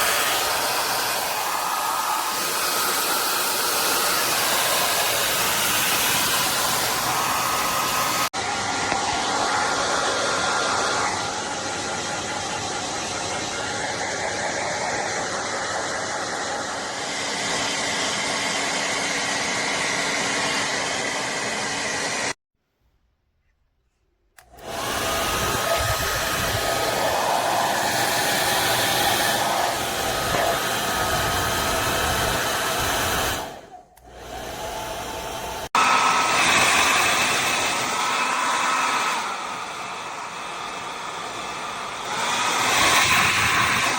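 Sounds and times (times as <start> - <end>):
hair dryer blowing with whine: 0.0 - 22.4, 24.4 - 43.9.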